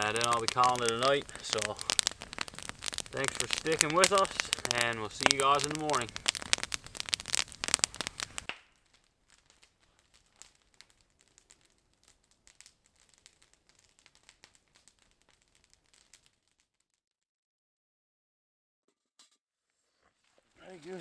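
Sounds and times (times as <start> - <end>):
campfire crackling: 0.0 - 16.6, 20.2 - 21.0.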